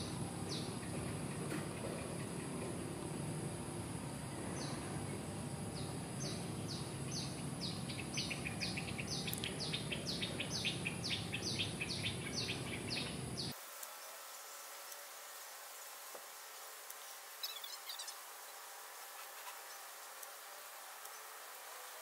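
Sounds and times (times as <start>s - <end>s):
insect drone: 0.0s - 22.0s
low background noise: 0.0s - 22.0s.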